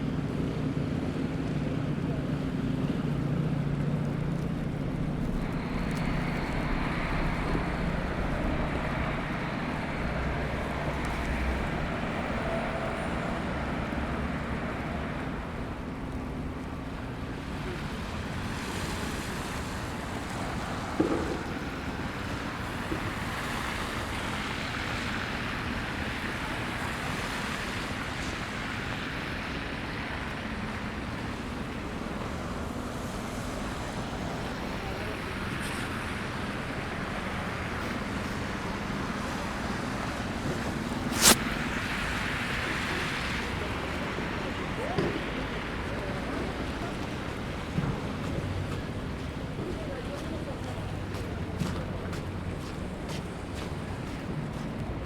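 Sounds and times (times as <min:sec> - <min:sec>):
low engine hum: 0:00.0 - 0:55.0
vehicles passing on snowy streets: 0:00.0 - 0:55.0
wind: 0:00.0 - 0:55.0.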